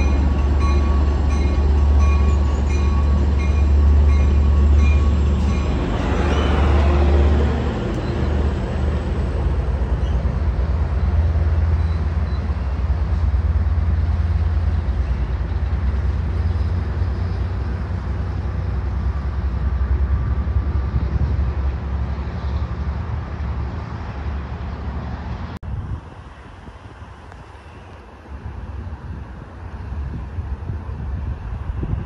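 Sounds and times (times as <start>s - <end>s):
diesel train rumbling: 0.0s - 32.0s.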